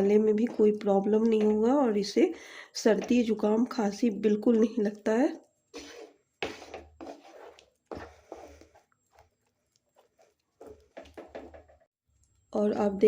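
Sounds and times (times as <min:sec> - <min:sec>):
spoon stirring and scraping pan: 0:00.0 - 0:03.7, 0:04.8 - 0:11.9.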